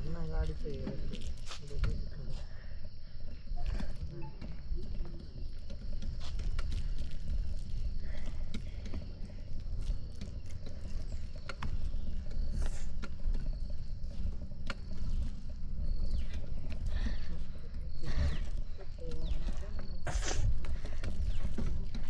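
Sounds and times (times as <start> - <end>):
wind rumble on microphone: 0.0 - 22.0
bike clicks and rattles: 3.7 - 22.0.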